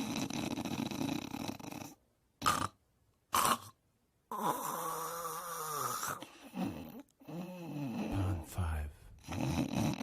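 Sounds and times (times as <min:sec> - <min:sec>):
snoring: 0:00.0 - 0:08.4, 0:09.2 - 0:10.0.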